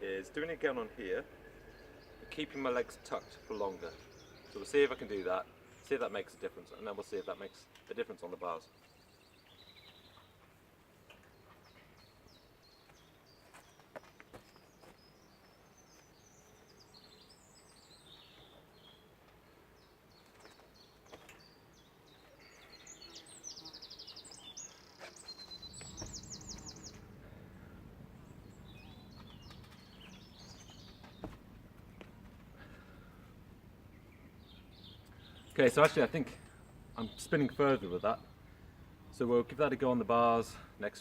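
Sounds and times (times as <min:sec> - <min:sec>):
birds chirping and singing: 0:00.0 - 0:40.7.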